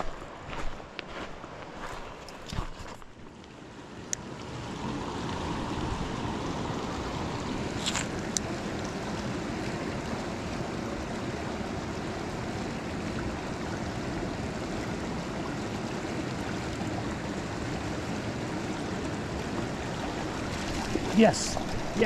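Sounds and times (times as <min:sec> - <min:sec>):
river water rushing: 0:03.6 - 0:22.0.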